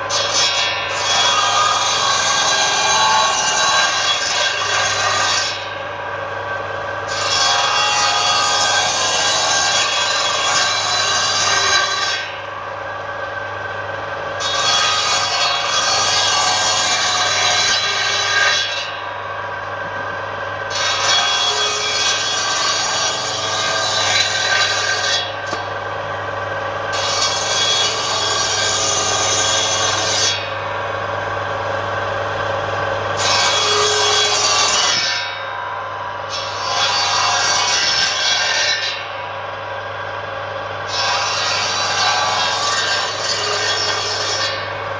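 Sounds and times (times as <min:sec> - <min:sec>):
saw motor hum: 0:00.0 - 0:44.9
table saw cutting wood: 0:00.0 - 0:44.9.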